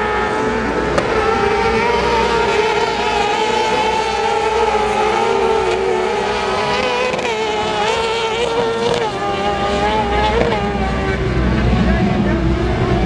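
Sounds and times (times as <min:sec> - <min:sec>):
racing kart engines at high revs: 0:00.0 - 0:13.0.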